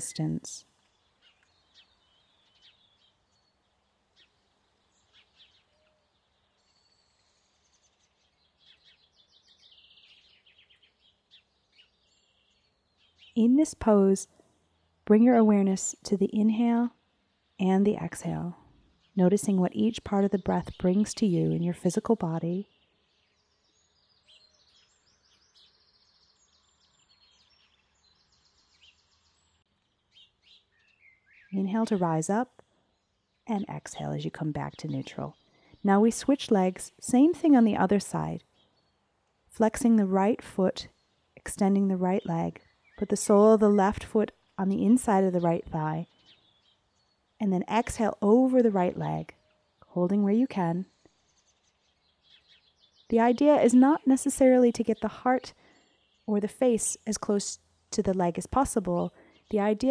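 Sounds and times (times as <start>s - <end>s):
birds chirping and trilling: 0.0s - 39.0s, 39.6s - 59.9s.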